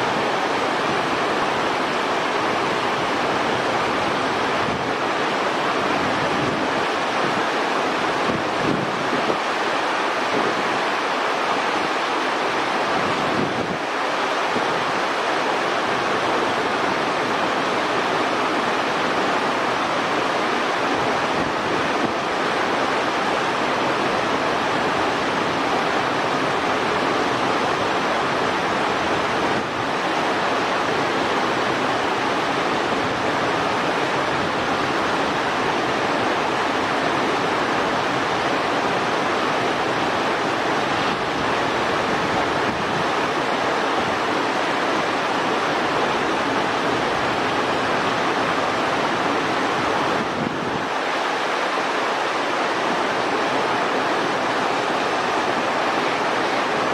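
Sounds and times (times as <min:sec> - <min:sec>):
running water rushing: 0:00.0 - 0:56.9.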